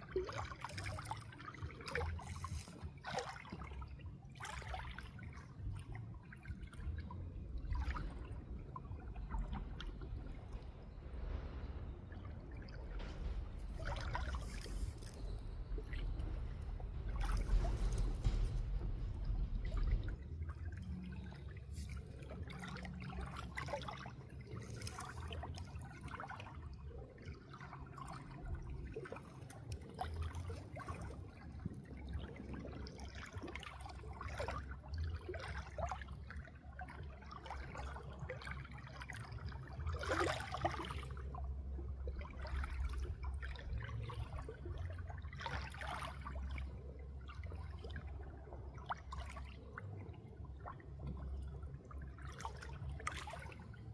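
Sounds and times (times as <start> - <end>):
steady low rumble: 0.0 - 53.9
water trickling and splashing: 0.0 - 53.9.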